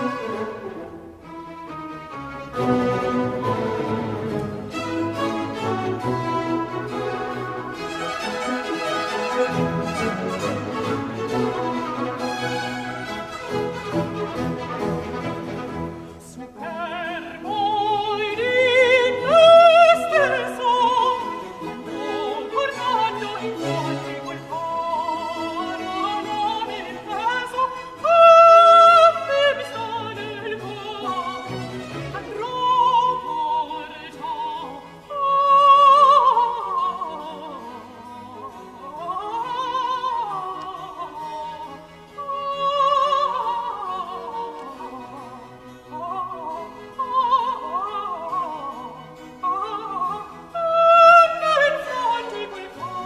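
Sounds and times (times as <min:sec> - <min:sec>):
countertenor singing opera aria: 0:00.0 - 0:01.3, 0:02.2 - 0:53.0
orchestral accompaniment: 0:00.0 - 0:53.0.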